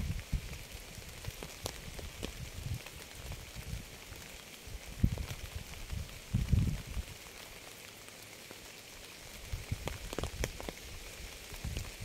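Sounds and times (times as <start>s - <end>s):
loud raindrops striking close: 0.0s - 12.0s
steady rain hiss: 0.0s - 12.0s.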